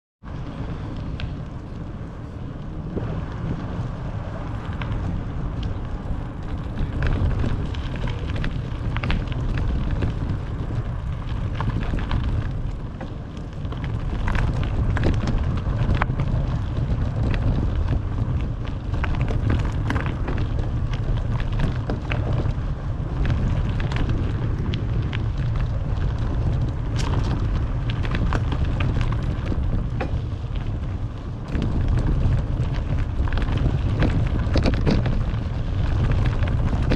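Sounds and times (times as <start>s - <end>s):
bicycle ticks and rattles: 0.2s - 36.9s
wind buffeting microphone: 0.2s - 36.9s.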